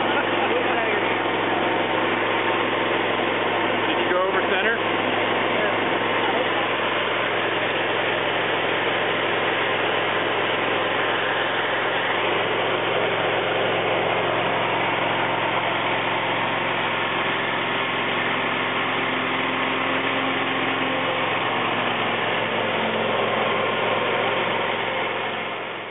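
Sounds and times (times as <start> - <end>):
engine idling: 0.0 - 25.9.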